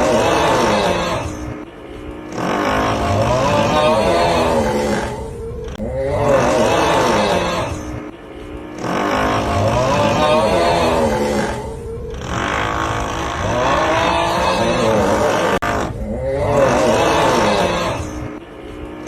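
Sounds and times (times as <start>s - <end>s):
loud groaning snore: 0.0s - 8.1s, 8.8s - 18.4s
drilling noise: 0.0s - 18.2s.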